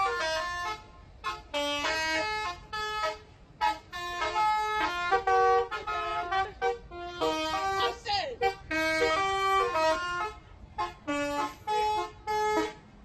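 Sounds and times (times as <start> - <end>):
musical bus air horn: 0.0 - 13.0.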